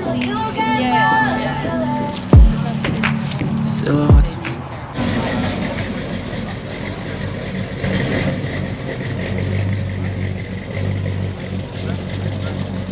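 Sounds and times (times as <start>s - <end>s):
pickup truck engine driving past: 1.5s - 12.9s.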